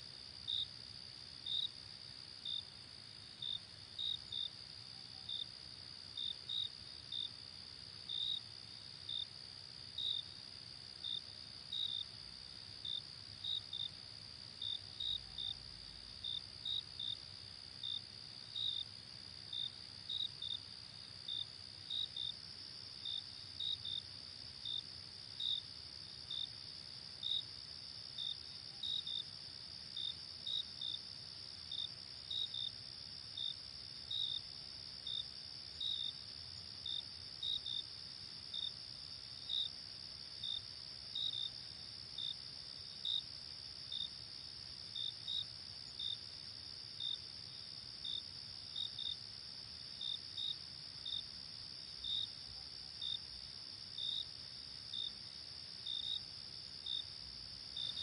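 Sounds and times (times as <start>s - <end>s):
crickets chirping: 0.0s - 58.0s
steady high-pitched hiss: 0.0s - 58.0s.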